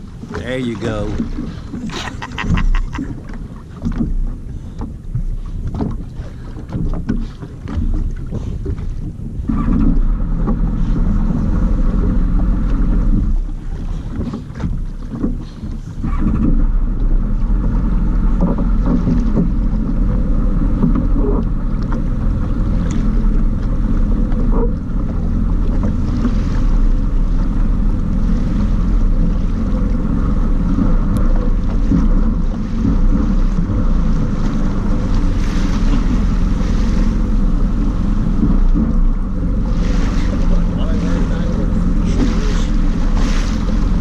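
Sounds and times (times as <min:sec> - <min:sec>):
jet ski engine droning: 0:00.0 - 0:44.0
water and wind on microphone: 0:00.0 - 0:44.0.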